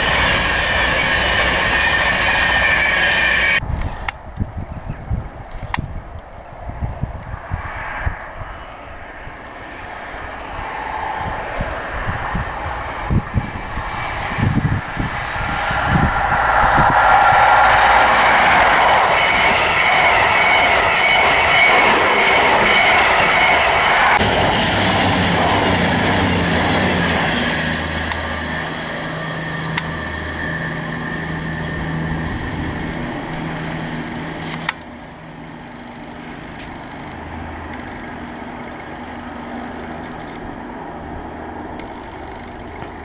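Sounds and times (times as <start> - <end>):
train coaches rushing past: 0.0 - 3.6, 9.5 - 43.0
high whine: 0.0 - 4.5, 7.0 - 43.0
diesel train engine hum: 0.0 - 43.0.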